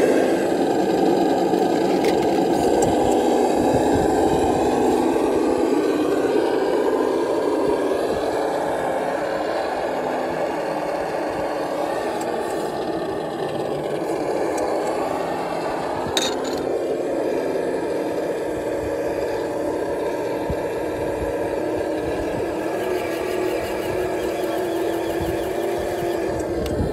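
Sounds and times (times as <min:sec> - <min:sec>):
toy car electric motor running: 0:00.0 - 0:26.9.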